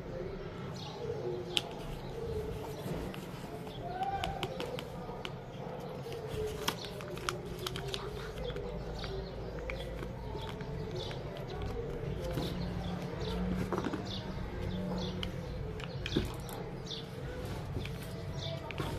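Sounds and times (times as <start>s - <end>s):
paper crinkling and tapping: 1.5s - 18.9s.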